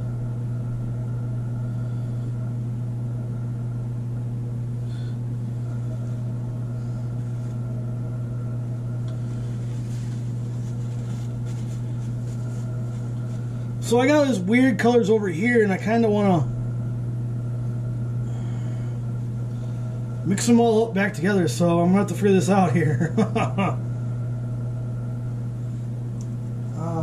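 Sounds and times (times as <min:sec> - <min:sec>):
kitchen appliance humming: 0:00.0 - 0:27.0.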